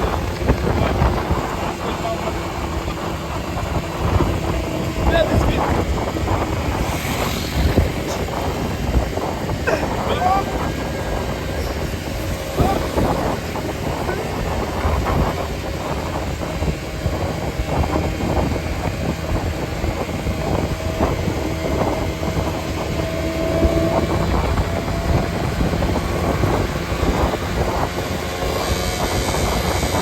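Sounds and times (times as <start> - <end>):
vehicle engine and road noise: 0.0 - 30.0
wind buffeting microphone: 0.0 - 30.0.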